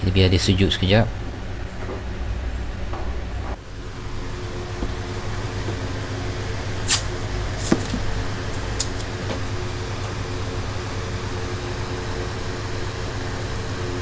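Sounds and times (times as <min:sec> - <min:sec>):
electric hum of equipment: 0:00.0 - 0:14.0.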